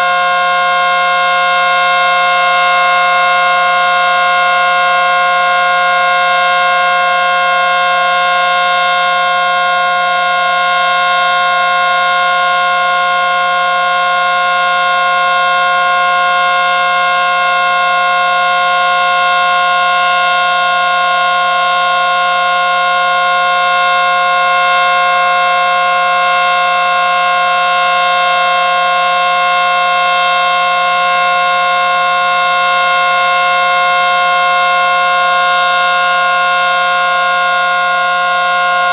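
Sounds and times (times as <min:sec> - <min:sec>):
outdoor warning siren steady chord: 0:00.0 - 0:38.9.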